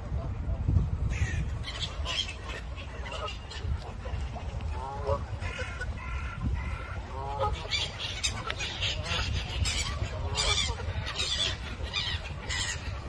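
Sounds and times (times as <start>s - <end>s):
geese honking: 1.1s - 13.0s.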